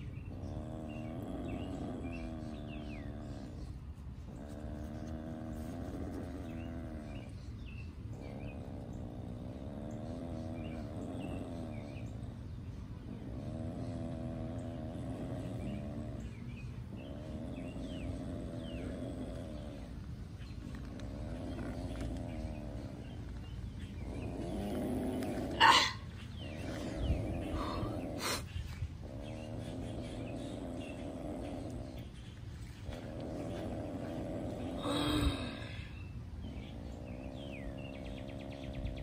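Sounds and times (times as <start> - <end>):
opossum growling: 0.0 - 39.0
small birds chirping: 0.0 - 39.0.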